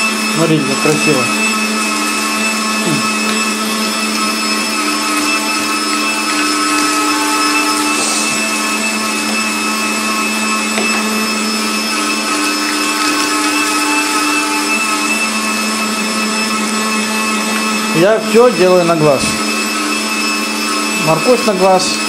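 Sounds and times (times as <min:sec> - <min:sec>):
electric meat grinder humming: 0:00.0 - 0:22.0.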